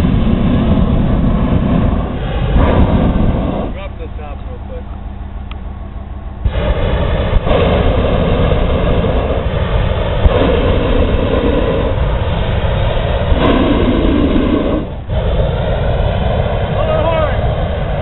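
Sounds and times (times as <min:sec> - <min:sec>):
fan engine humming: 0:00.0 - 0:18.0
propane burner blasting: 0:00.0 - 0:18.0.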